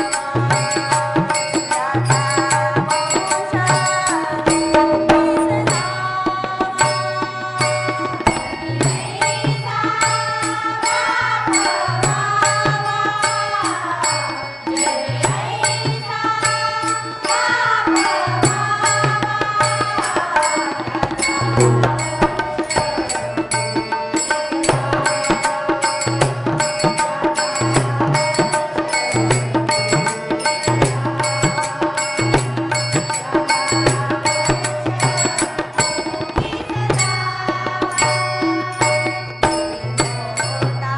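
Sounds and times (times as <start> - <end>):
harmonium: 0.0 - 40.9
tabla drumming: 0.0 - 40.9
women singing: 0.0 - 40.9.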